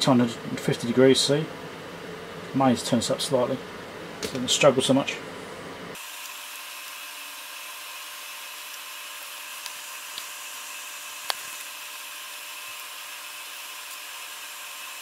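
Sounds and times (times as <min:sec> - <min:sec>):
bench fan hissing: 0:00.0 - 0:15.0.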